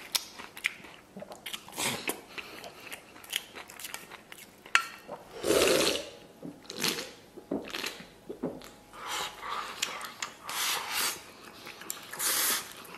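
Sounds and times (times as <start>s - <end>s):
chewing: 0.0s - 5.2s, 6.6s - 12.9s.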